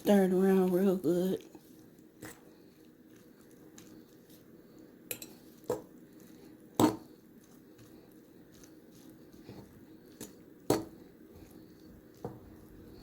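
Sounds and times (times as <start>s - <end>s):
spaghetti stirred in bowl: 0.0s - 13.0s.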